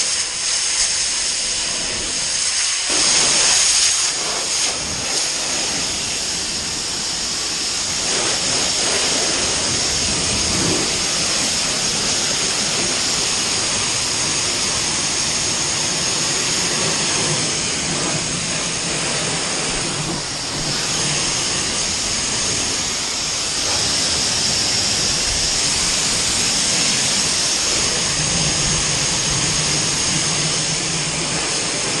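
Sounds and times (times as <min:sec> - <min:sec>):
pressure washer spraying: 0:00.0 - 0:32.0.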